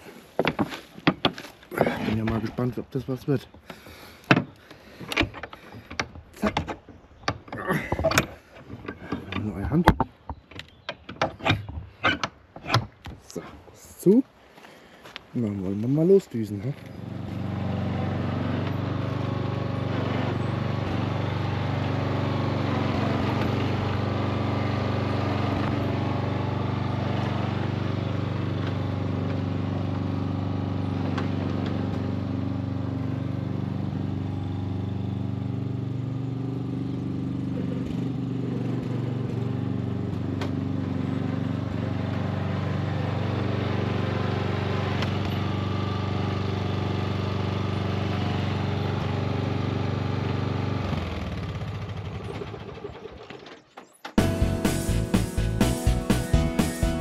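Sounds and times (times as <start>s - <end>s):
lawn tractor engine running: 0.0s - 10.8s, 16.6s - 57.0s.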